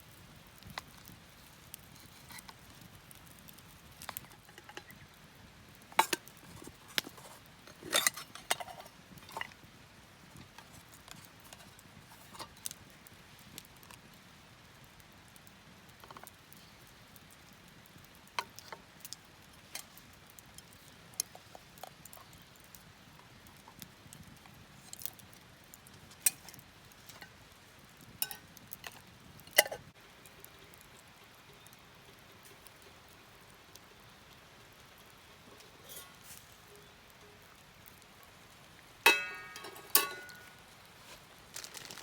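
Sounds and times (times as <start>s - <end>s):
faint steady background noise: 0.0s - 42.0s.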